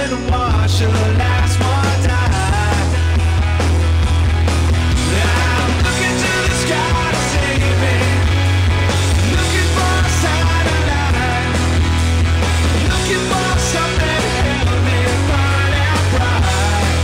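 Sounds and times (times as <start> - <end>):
rock music with loud bass: 0.0 - 17.0.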